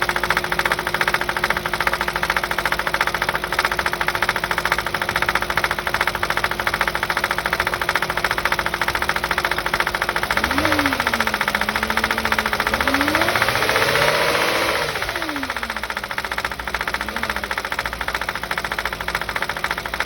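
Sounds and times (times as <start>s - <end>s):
car engine rattling: 0.0s - 20.0s.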